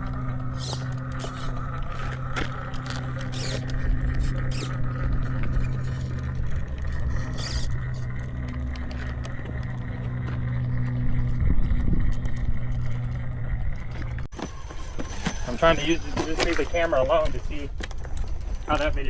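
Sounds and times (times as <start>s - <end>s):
electric motors humming: 0.0s - 19.0s
tyres scraping on rock: 0.0s - 19.0s.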